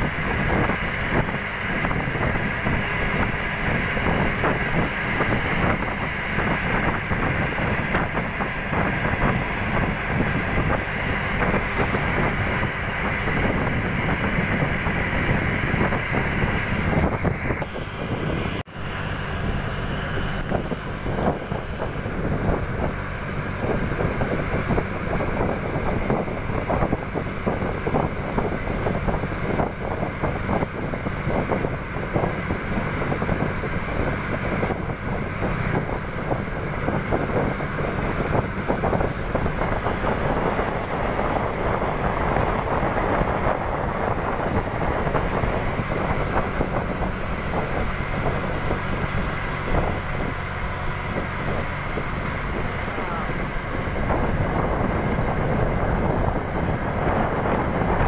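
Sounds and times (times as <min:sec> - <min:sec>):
vehicle driving road noise: 0:00.0 - 0:58.0
wind buffeting microphone: 0:00.0 - 0:58.0.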